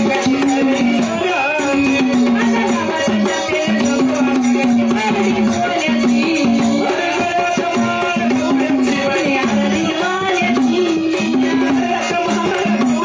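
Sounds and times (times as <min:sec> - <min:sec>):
rattling percussion and drums: 0:00.0 - 0:13.0.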